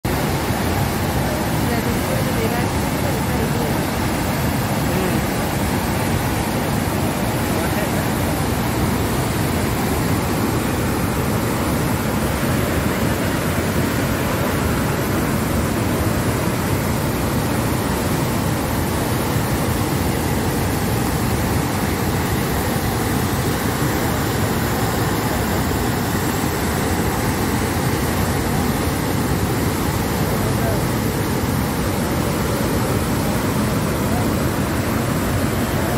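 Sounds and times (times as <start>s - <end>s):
floodwater rushing: 0.0s - 35.9s.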